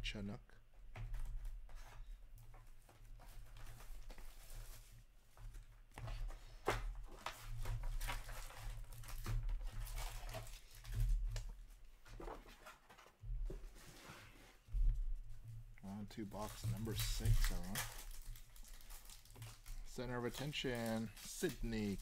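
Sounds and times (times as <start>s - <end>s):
cards and packaging rustling: 1.1s - 13.8s, 15.9s - 22.0s.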